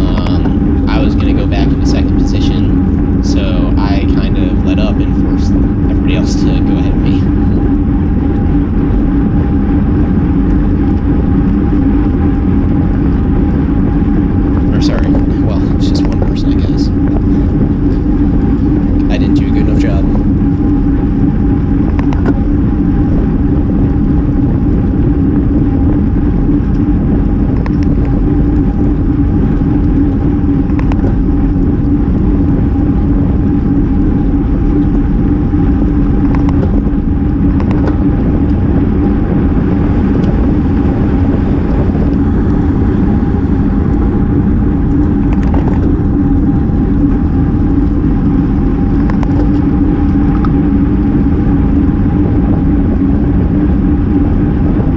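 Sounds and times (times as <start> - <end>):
road noise: 0.0 - 54.9
wind rush: 0.0 - 54.9.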